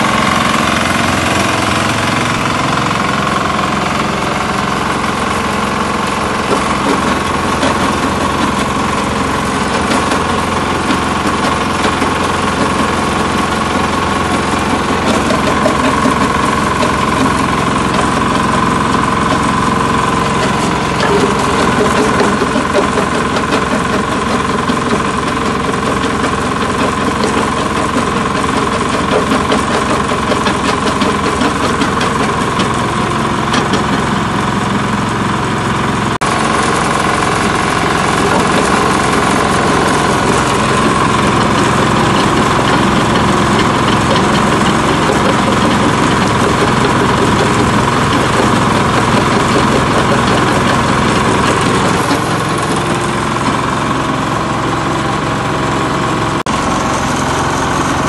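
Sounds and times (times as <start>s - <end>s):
diesel engine driving stone crusher: 0.0s - 58.0s.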